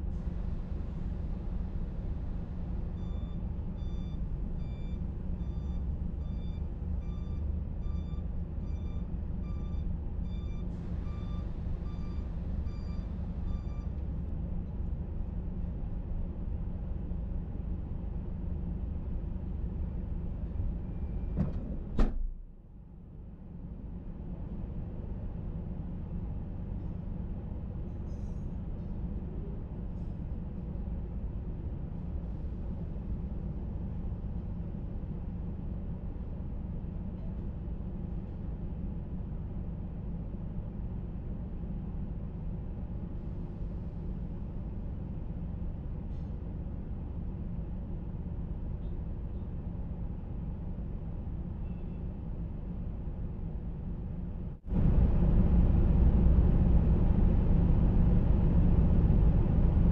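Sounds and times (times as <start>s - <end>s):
vehicle rumble: 0.0s - 22.6s, 27.2s - 59.9s.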